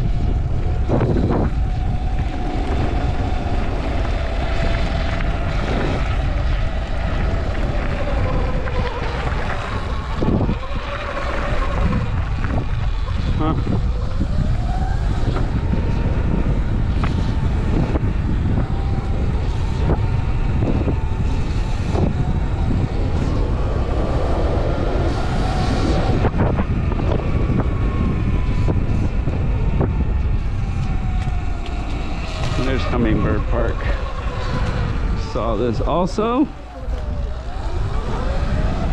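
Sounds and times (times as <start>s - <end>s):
electric motor whine: 0.0s - 38.9s
wind rush on microphone: 0.0s - 38.9s.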